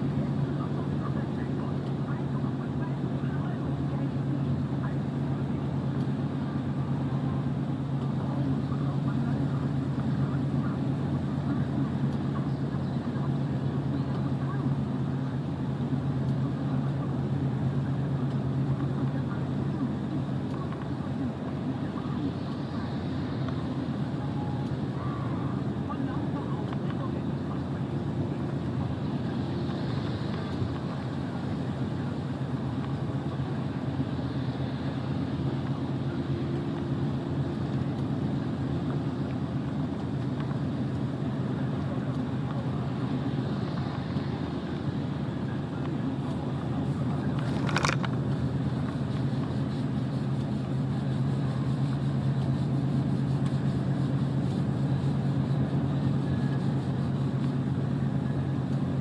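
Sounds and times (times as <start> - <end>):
truck engine drone: 0.0 - 59.0
tyre and road noise: 0.0 - 59.0.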